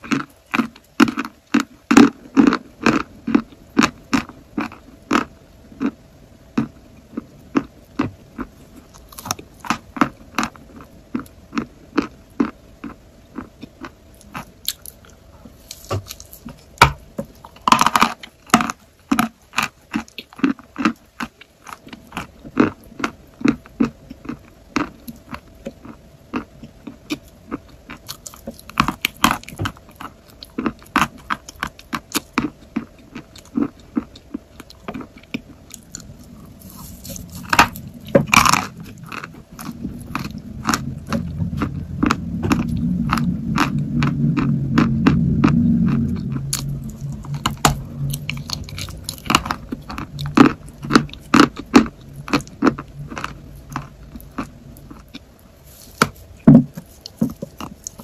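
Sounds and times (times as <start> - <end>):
chalk crunching while chewing: 6.6 - 58.0.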